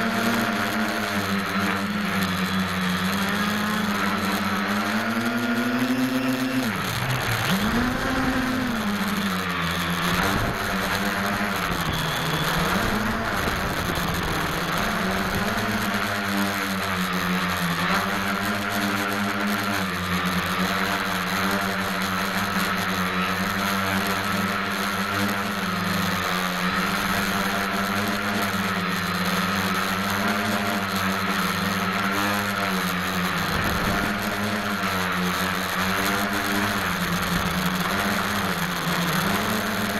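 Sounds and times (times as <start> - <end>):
quadcopter motors buzzing: 0.0 - 39.9.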